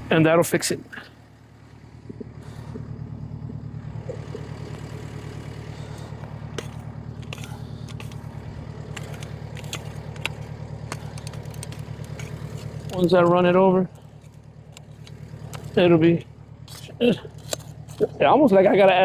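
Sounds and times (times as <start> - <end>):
diesel engine running: 0.0 - 19.0
crunches and scrapes of dirt and stones: 2.0 - 15.8, 16.6 - 18.3.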